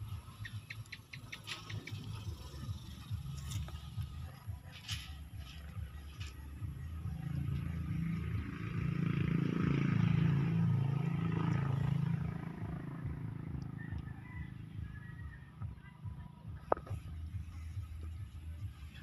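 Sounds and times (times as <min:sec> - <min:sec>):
motor vehicle passing: 0:00.0 - 0:19.0.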